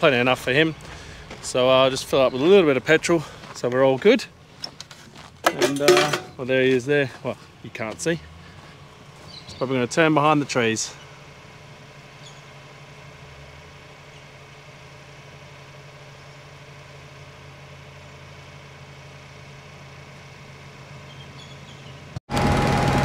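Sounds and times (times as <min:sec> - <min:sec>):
loud engine: 0:00.0 - 0:23.0
vehicle engine idling: 0:00.0 - 0:23.0.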